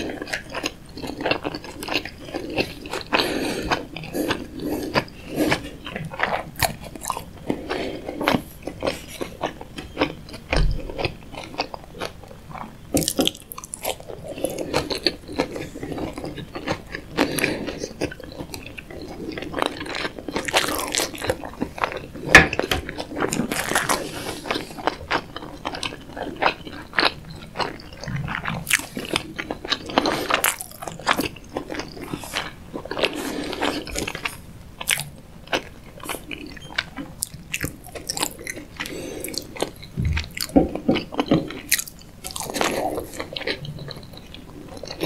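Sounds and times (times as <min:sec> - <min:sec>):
wet chewing mouth sounds: 0:00.0 - 0:45.0.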